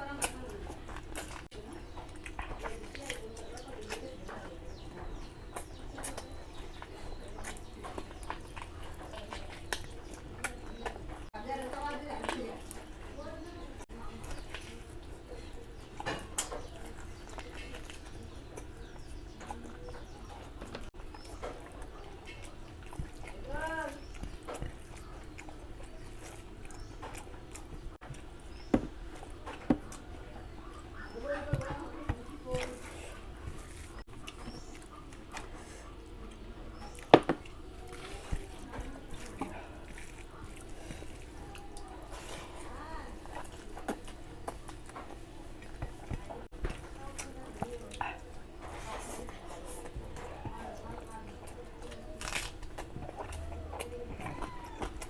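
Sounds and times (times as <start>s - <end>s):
person chewing and smacking: 0.0s - 55.0s.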